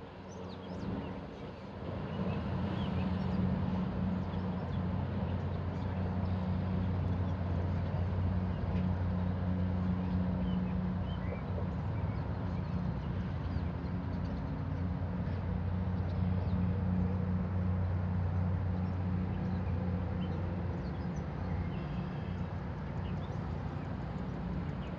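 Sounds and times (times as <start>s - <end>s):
low engine hum: 0.0s - 24.9s.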